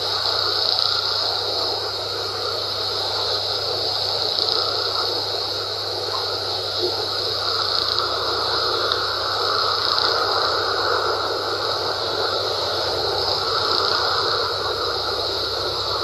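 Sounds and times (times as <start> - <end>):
constant hiss: 0.0 - 16.0.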